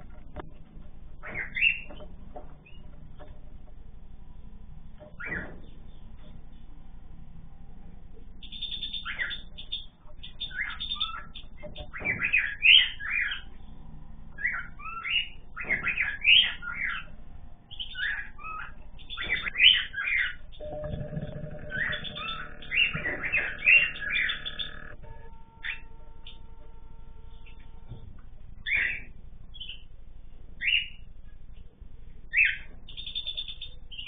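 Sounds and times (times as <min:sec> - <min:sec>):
cage birds chirping: 0:00.2 - 0:34.0.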